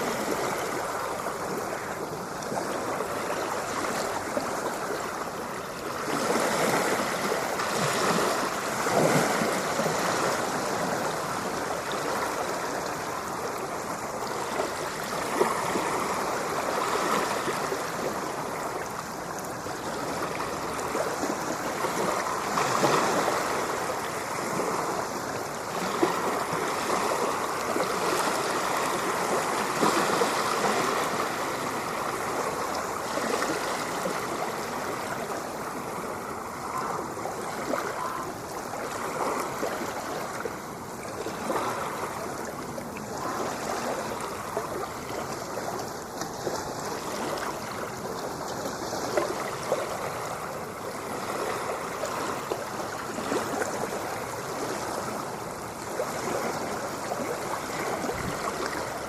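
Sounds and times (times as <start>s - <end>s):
water rushing and splashing: 0.0s - 59.0s.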